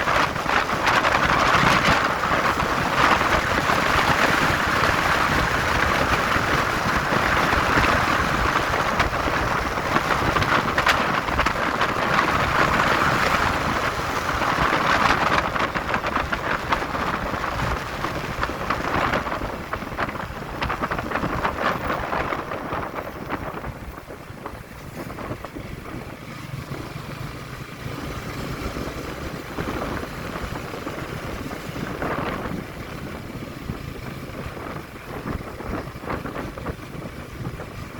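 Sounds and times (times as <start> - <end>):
motorcycle engine: 0.0 - 37.9
road noise: 0.0 - 37.9
wind buffeting microphone: 0.0 - 37.9.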